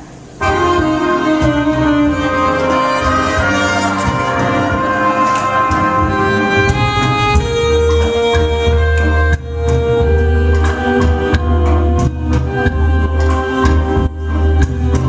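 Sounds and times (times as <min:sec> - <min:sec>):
rumba dance music: 0:00.4 - 0:15.0.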